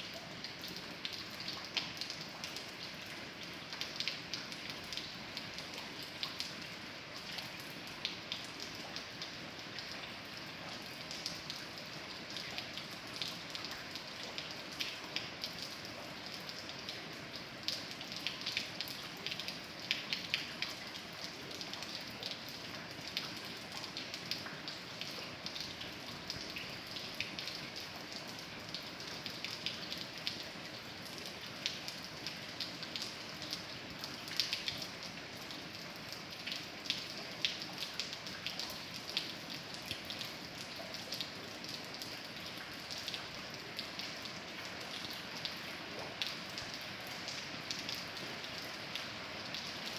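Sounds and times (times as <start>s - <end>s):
raindrops ticking on surface: 0.0s - 49.9s
steady rain: 0.0s - 49.9s.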